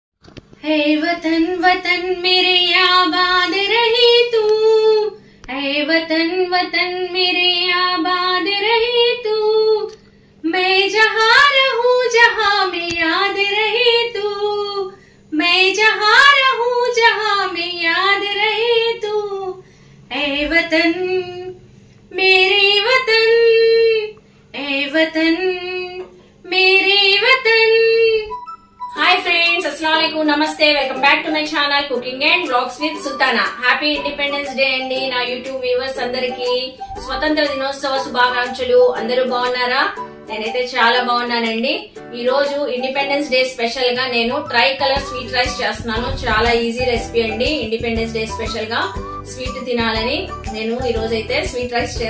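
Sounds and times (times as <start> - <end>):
woman singing: 0.6 - 28.3, 28.9 - 52.0.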